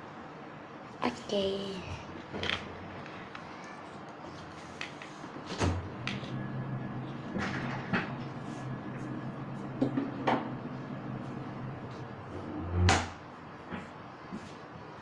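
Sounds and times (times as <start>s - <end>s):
freezer hum: 0.0s - 15.0s.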